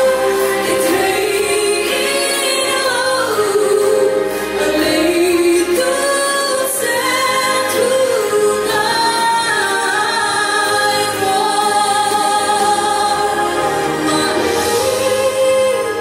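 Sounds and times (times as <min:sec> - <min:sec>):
woman singing gospel song: 0:00.0 - 0:16.0.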